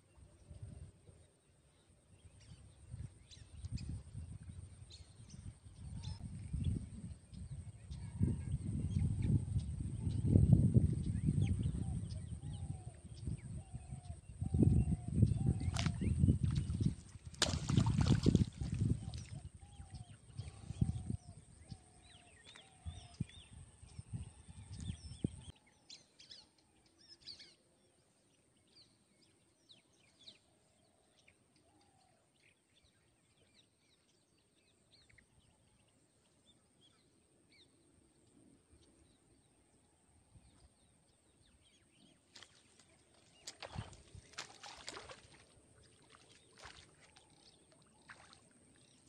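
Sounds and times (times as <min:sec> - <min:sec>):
birds chirping: 0:01.2 - 0:49.0.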